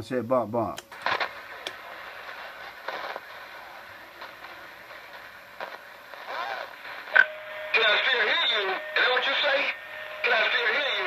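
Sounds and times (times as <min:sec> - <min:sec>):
radio static hiss: 0:00.0 - 0:11.0
garbled radio signal: 0:01.0 - 0:11.0.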